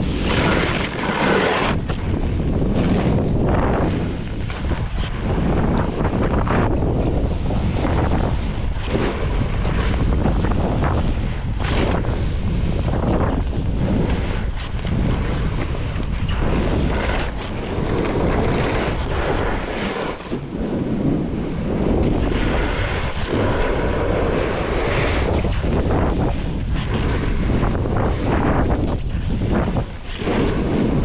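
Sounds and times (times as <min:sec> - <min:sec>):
snowboard edge scraping snow: 0:00.0 - 0:31.0
wind buffeting microphone: 0:00.0 - 0:31.0.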